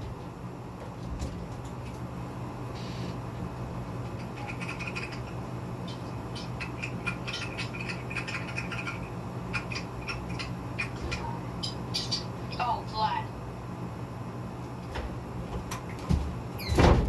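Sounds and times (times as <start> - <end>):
ceiling fan motor humming: 0.0 - 17.0.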